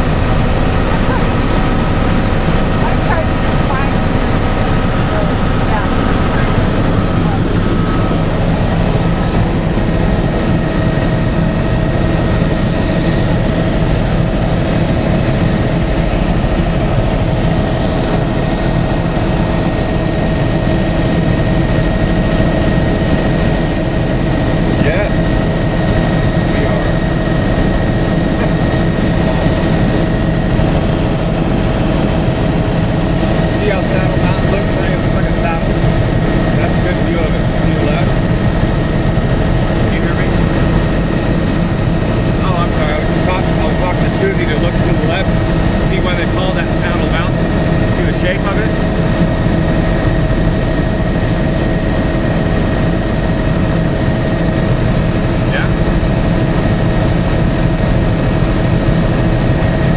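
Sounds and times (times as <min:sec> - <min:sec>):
helicopter engine and rotor drone: 0:00.0 - 0:59.9
high steady whine: 0:00.0 - 0:59.9.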